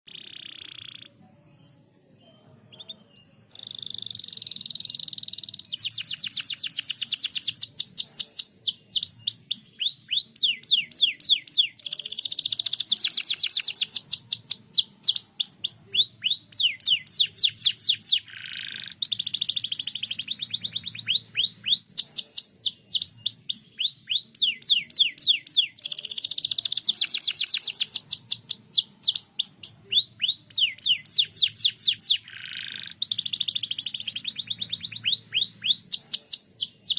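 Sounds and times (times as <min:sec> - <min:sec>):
canary singing: 0:00.1 - 0:36.9.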